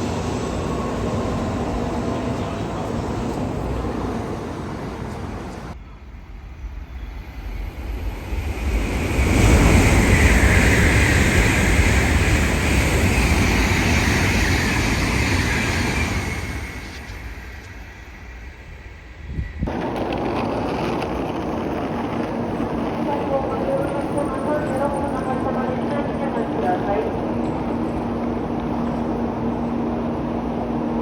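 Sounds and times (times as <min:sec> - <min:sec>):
train passing at high speed: 0:00.0 - 0:31.0.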